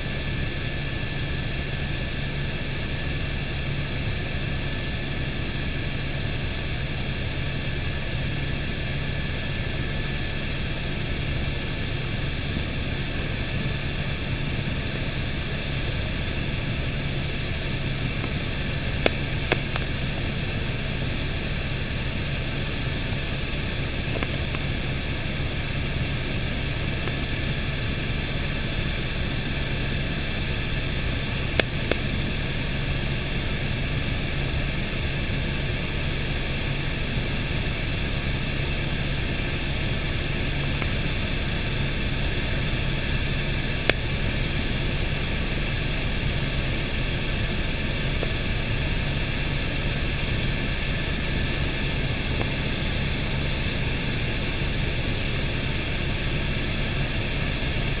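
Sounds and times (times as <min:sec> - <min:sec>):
helicopter engine and rotors drone: 0:00.0 - 0:58.0.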